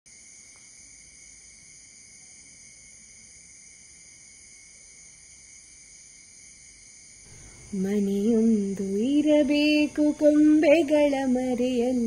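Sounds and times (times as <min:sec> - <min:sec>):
high-pitched insect chorus: 0:00.1 - 0:12.0.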